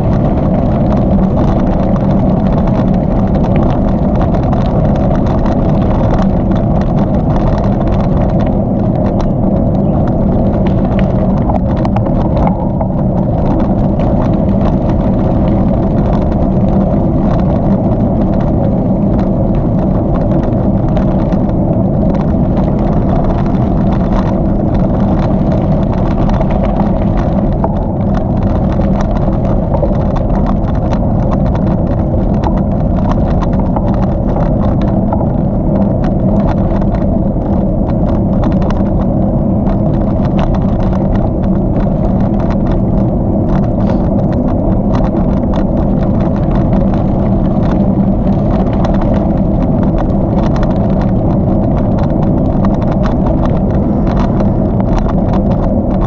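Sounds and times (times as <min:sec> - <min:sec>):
bicycle tyres rolling on trail: 0:00.0 - 0:56.0
small knocks and rattles: 0:00.0 - 0:56.0
wind on microphone: 0:00.0 - 0:56.0.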